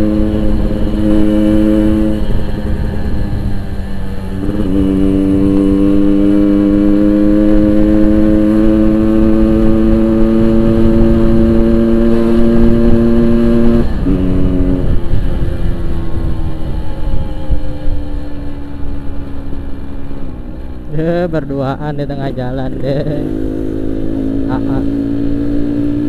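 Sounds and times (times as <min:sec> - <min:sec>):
two-stroke motorcycle engine: 0:00.0 - 0:26.0.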